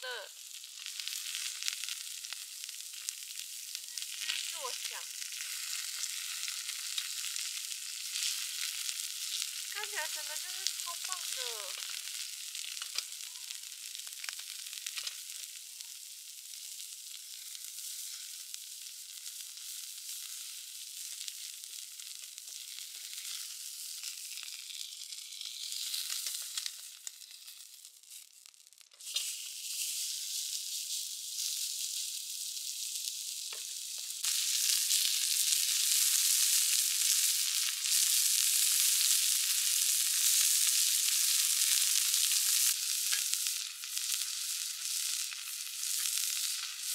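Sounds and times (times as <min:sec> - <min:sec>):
oil popping and crackling: 0:00.0 - 0:46.9
steak sizzling in a pan: 0:00.0 - 0:46.9.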